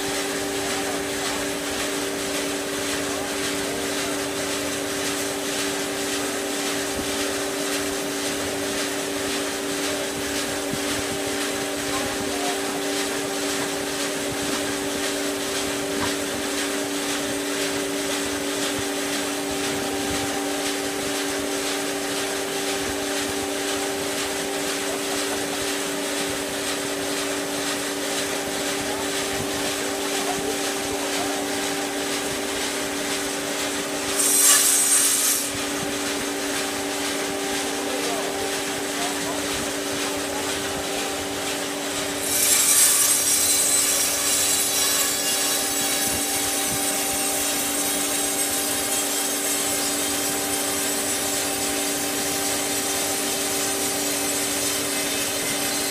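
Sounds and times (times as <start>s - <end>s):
band saw running: 0.0s - 55.9s.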